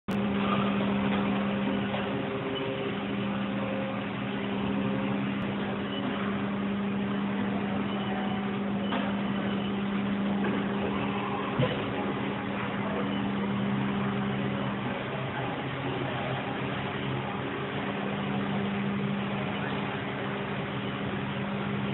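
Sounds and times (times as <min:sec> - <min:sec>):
shop machinery humming: 0:00.1 - 0:21.9.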